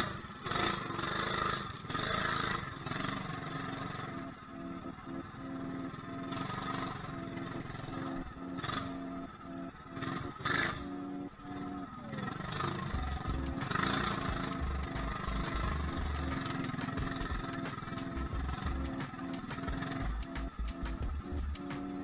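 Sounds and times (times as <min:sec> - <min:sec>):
mini bike engine running: 0:00.0 - 0:22.0.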